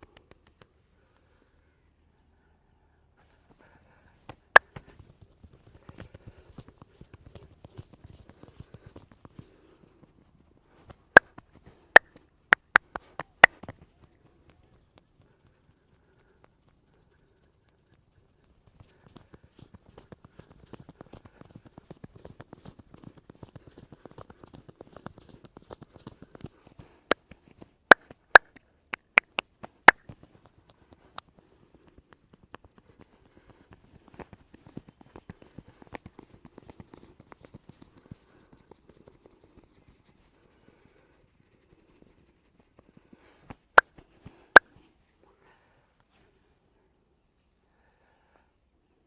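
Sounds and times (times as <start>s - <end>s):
hands pattering on head and back: 0.0s - 0.8s, 3.6s - 44.9s.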